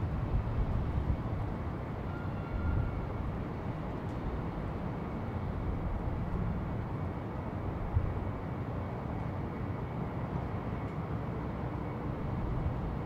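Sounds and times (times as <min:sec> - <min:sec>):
distant traffic: 0:00.0 - 0:13.0
low city rumble: 0:00.0 - 0:13.0.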